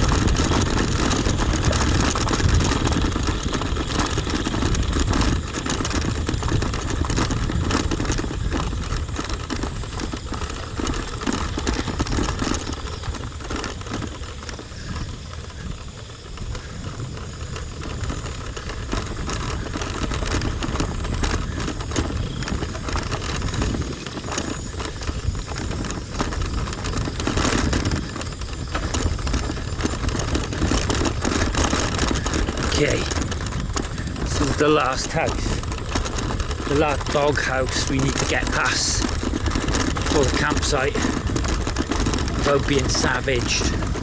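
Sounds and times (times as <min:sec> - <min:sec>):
bicycle rattling over rough road: 0:00.0 - 0:44.0
wind buffeting microphone: 0:00.0 - 0:44.0.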